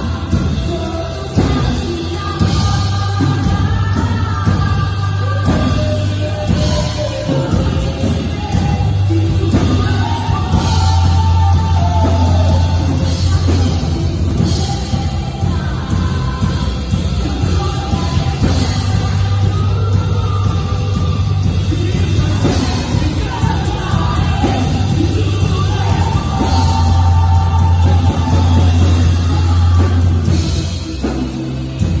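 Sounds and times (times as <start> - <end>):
heavy sustained bass: 0.0 - 32.0
live rock band playing: 0.0 - 32.0
person singing: 0.0 - 32.0.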